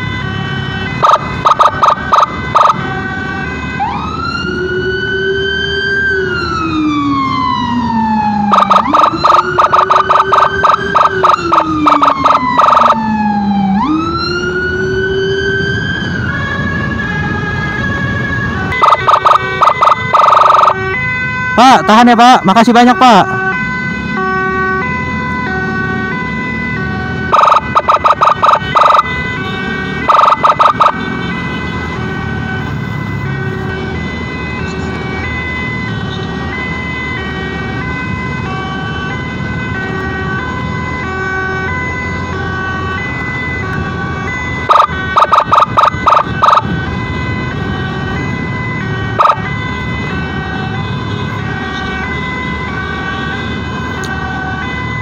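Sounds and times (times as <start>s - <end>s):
hi-lo emergency siren: 0.0s - 55.0s
rapid loud siren blasts: 0.0s - 55.0s
road and engine noise: 0.0s - 55.0s.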